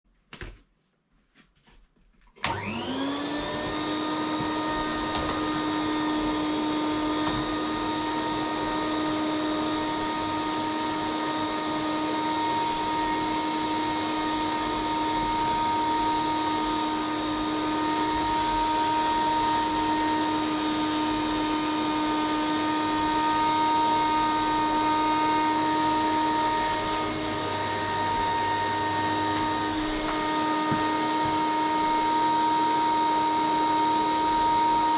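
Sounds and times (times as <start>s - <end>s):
vacuum cleaner running: 2.4s - 34.9s.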